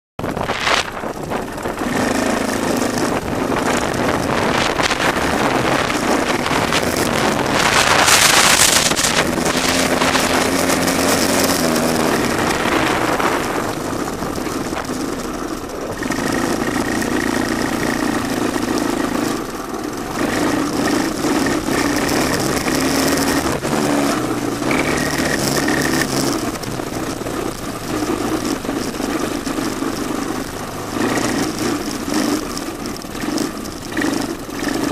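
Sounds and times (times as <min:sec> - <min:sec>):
three-wheeler engine running: 0:00.2 - 0:34.9
wind noise on microphone: 0:00.2 - 0:34.9.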